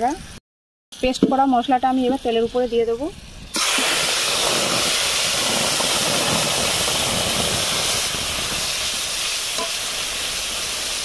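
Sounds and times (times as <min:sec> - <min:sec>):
spice paste sizzling in hot oil: 0:01.0 - 0:11.0.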